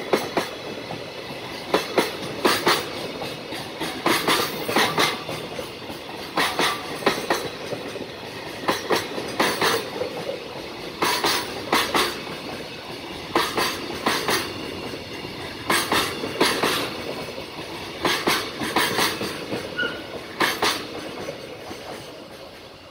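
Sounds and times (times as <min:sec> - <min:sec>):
rumble of wheels on rail: 0:00.0 - 0:22.9
train wheels clacking over rail joints: 0:00.0 - 0:22.9.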